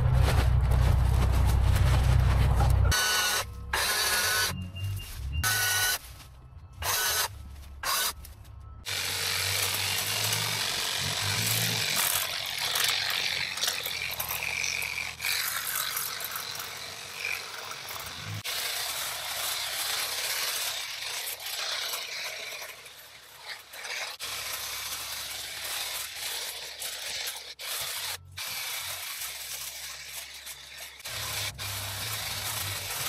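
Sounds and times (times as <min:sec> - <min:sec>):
hedge trimmer cutting branches: 0:02.9 - 0:04.6, 0:05.4 - 0:06.0, 0:06.8 - 0:08.2, 0:08.8 - 0:33.0.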